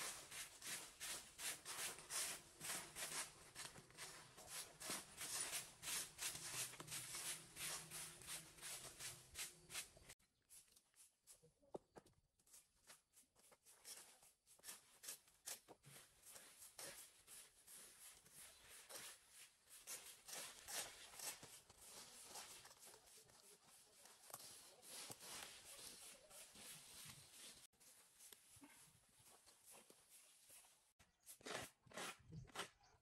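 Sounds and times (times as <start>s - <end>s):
rake scraping dry leaves: 0.0s - 10.2s, 13.8s - 30.4s
broom sweeping dry leaves: 0.0s - 11.3s, 12.5s - 31.0s.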